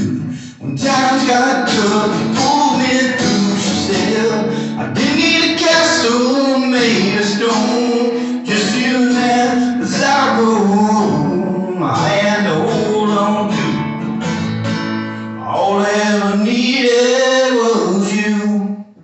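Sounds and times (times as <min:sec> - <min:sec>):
man singing: 0:00.0 - 0:14.0, 0:15.3 - 0:19.0
acoustic guitar strumming: 0:00.0 - 0:19.0.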